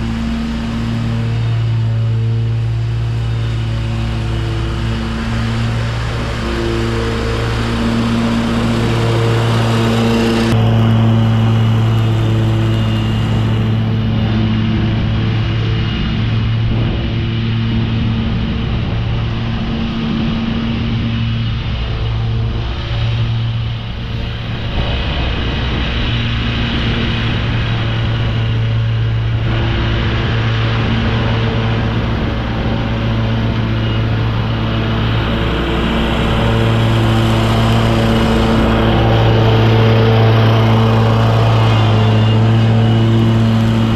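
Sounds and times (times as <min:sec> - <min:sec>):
lawn mower engine droning: 0:00.0 - 0:43.9.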